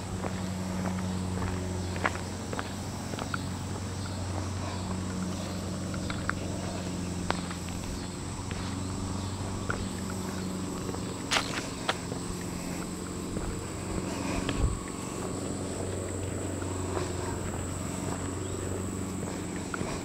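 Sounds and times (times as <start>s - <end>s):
footsteps on wet pavement: 0.0s - 20.0s
steady low hum: 0.0s - 20.0s.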